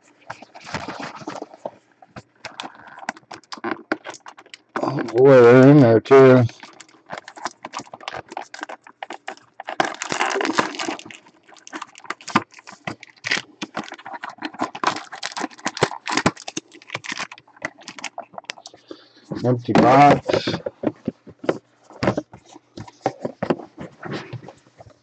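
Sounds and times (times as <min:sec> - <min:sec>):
foil and card crinkling: 0:00.2 - 0:25.0
packs tapping and scraping: 0:00.2 - 0:25.0.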